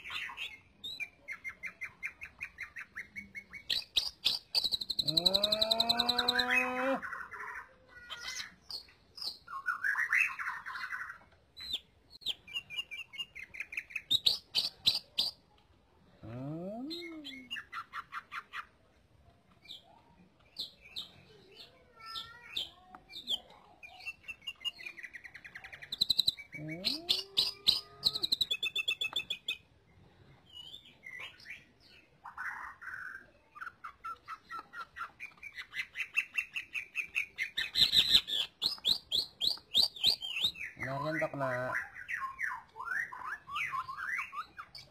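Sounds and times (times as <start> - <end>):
bird singing varied song: 0.0 - 44.9.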